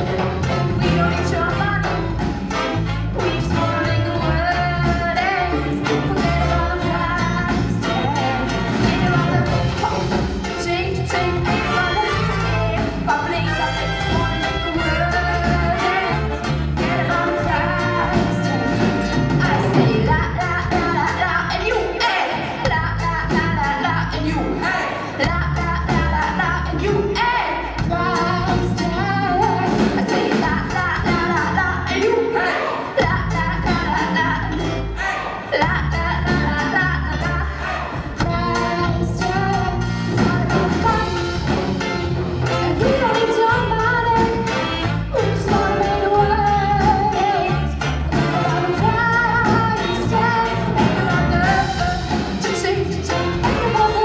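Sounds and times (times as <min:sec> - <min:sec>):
live reggae band: 0:00.0 - 0:54.0
woman singing: 0:00.8 - 0:02.2, 0:03.1 - 0:41.6, 0:42.4 - 0:54.0.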